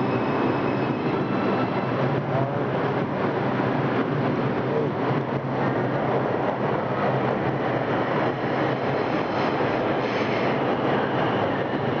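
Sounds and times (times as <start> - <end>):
subway train running: 0.0 - 12.0.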